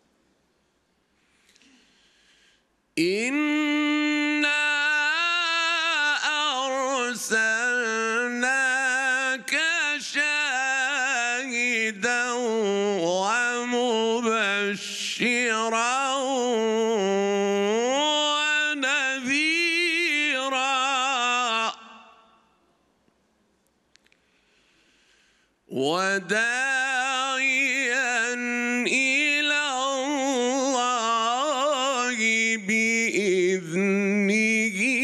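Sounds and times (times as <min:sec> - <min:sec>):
man chanting melodically: 0:03.0 - 0:22.2, 0:25.7 - 0:35.0.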